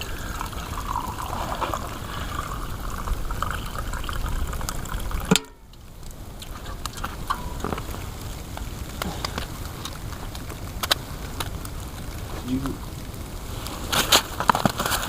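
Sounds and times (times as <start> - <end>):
hot water pouring into cup: 0.0 - 12.5.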